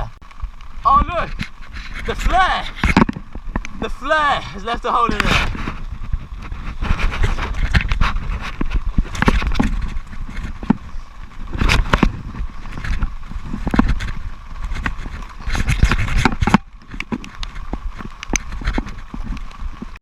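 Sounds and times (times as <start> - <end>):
wind on microphone: 0.8 - 20.0
knocks and scrapes: 0.9 - 3.9, 4.8 - 20.0.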